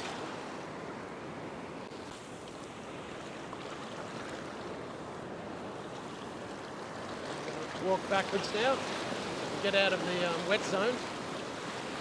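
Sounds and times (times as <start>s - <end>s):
waves breaking: 0.0s - 12.0s.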